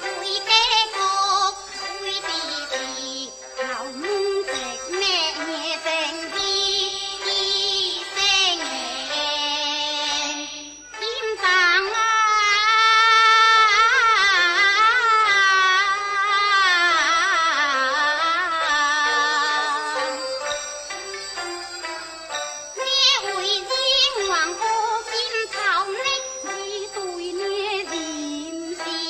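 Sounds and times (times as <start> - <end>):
opera music: 0.0 - 12.8, 16.6 - 29.0
high wavering melody: 0.0 - 29.0.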